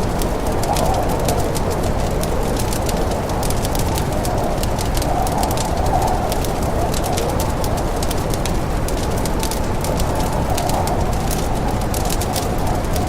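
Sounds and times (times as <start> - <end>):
fire crackling and popping: 0.0 - 13.0
wind moaning: 0.0 - 13.0.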